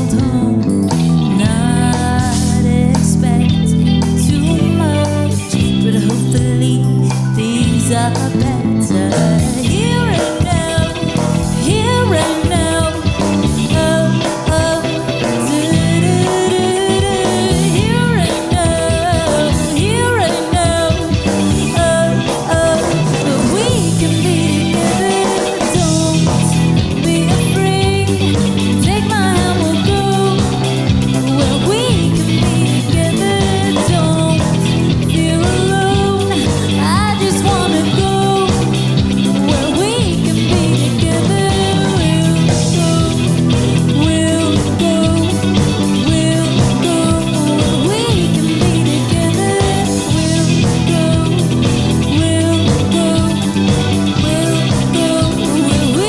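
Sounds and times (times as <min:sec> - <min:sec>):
funk rock band playing live: 0:00.0 - 0:56.0
sliding lead guitar line: 0:00.0 - 0:56.0.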